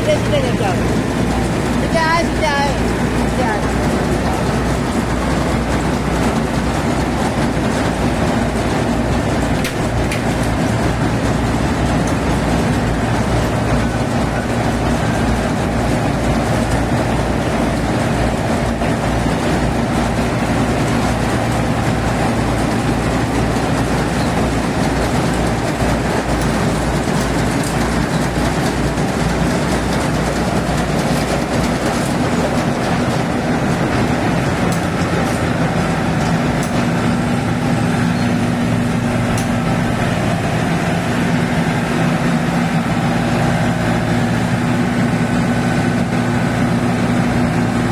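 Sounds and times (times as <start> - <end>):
combine harvester engine rumbling: 0.0 - 47.9
harvesting machinery clatter: 0.0 - 47.9.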